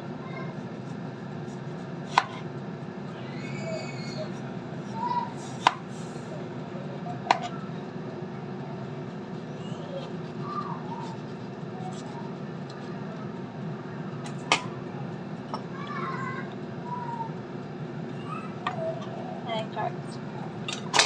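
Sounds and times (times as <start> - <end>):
air fryer humming: 0.0 - 21.0.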